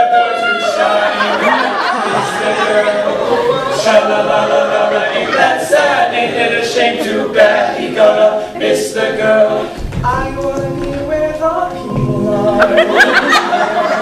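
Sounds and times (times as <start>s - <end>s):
male a cappella group singing: 0.0s - 14.0s.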